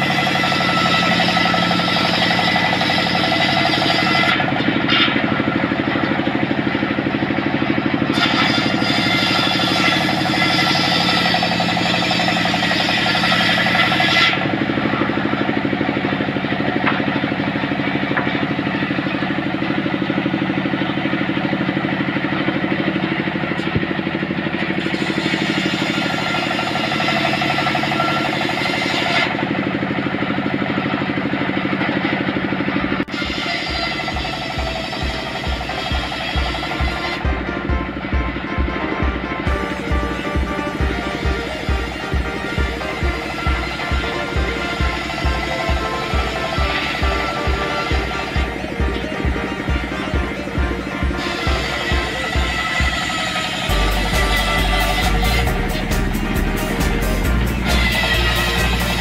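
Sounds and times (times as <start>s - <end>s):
circular saw ripping wood: 0.0s - 37.3s, 39.4s - 59.0s
engine running steadily: 0.0s - 59.0s.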